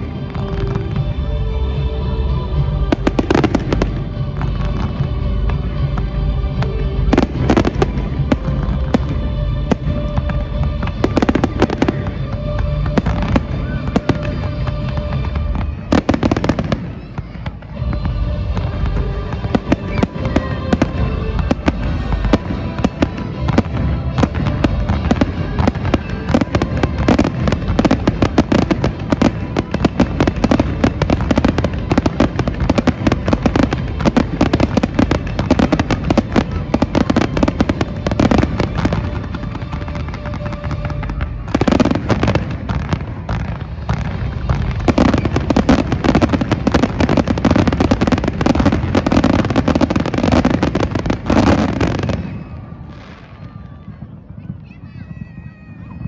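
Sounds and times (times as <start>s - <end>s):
fireworks bangs and crackles: 0.0s - 56.0s
music: 0.0s - 56.0s.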